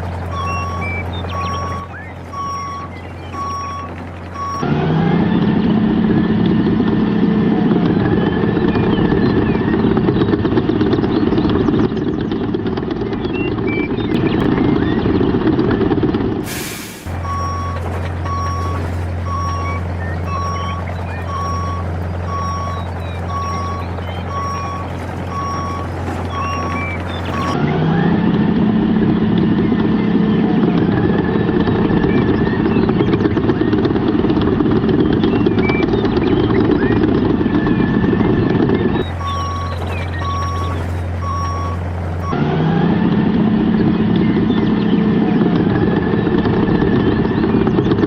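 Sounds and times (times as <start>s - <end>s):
vehicle reversing alarm beeping: 0.0s - 10.5s, 13.2s - 28.4s, 29.1s - 48.0s
low engine hum: 0.0s - 48.0s.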